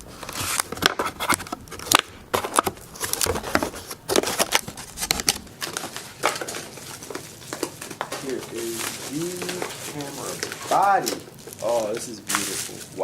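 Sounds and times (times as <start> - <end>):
packaging being unpacked by hand: 0.0 - 13.0.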